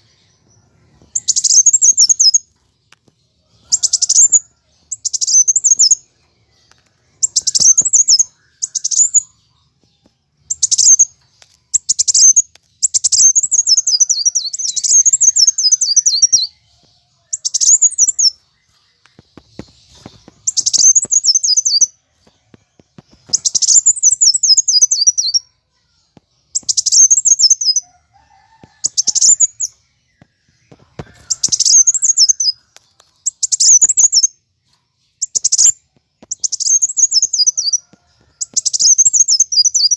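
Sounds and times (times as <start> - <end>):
sunbird chattering song: 0.0 - 2.7, 3.6 - 9.7, 10.4 - 16.6, 17.2 - 22.0, 23.0 - 25.5, 26.4 - 27.9, 28.7 - 34.4, 35.1 - 39.9.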